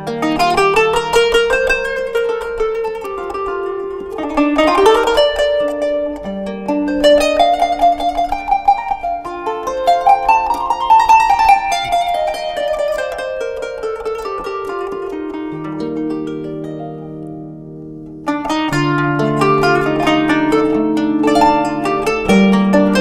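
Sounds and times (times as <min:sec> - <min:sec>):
plucked zither melody: 0:00.0 - 0:23.0.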